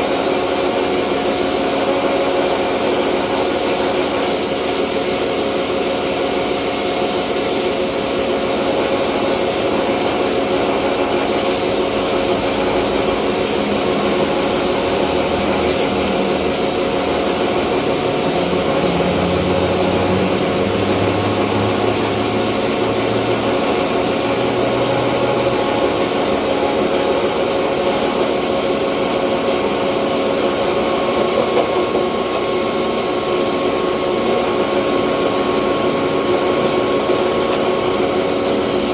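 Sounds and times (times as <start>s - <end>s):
milling machine humming: 0.0s - 38.9s.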